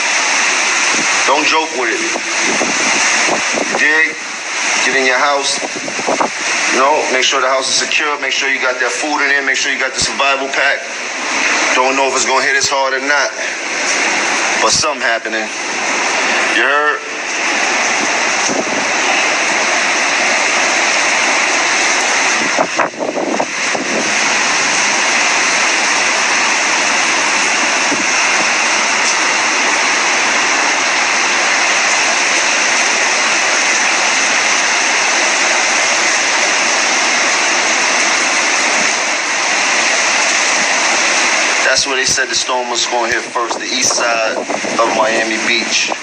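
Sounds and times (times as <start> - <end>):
heavy rain: 0.0 - 46.0.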